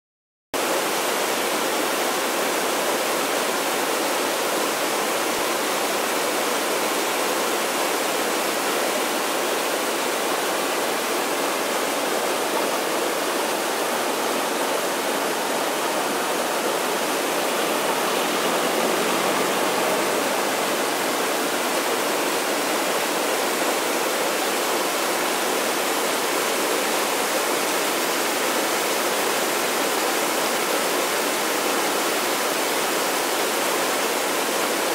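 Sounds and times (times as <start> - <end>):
river rushing over boulders: 0.6 - 34.9.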